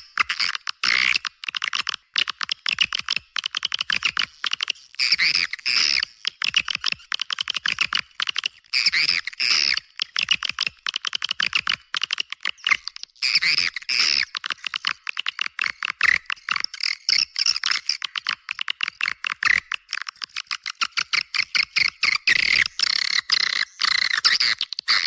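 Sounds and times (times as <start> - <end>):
dry rapid clicks: 0.1 - 25.0.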